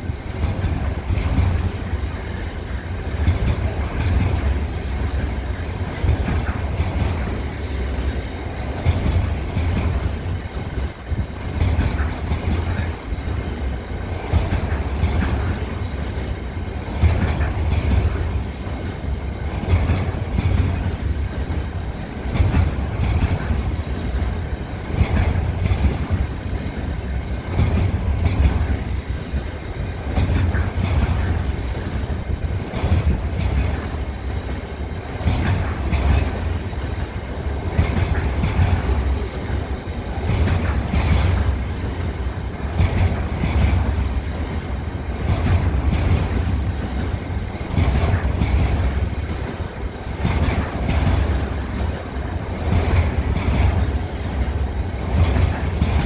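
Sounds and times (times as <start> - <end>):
freight train rumbling past: 0.0 - 56.0
wheels clattering over rail joints: 0.0 - 56.0.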